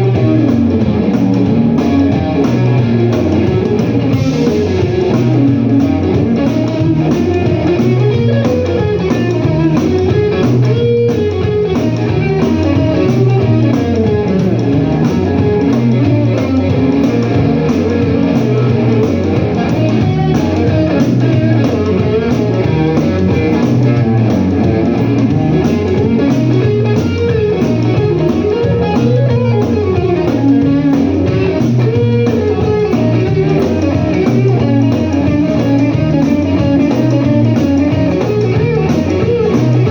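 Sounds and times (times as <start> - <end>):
blues guitar playing: 0.0 - 39.9.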